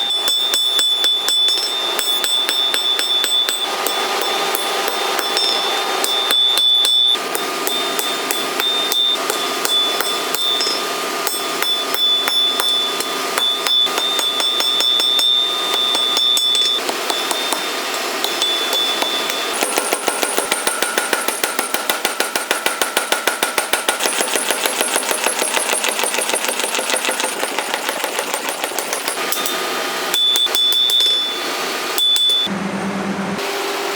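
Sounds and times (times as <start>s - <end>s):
hammer blows on metal: 0.0s - 32.5s.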